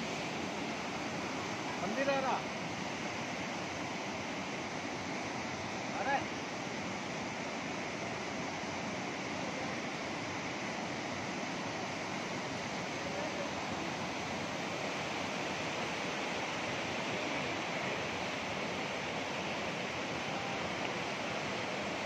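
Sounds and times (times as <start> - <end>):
river rushing over boulders: 0.0 - 22.0.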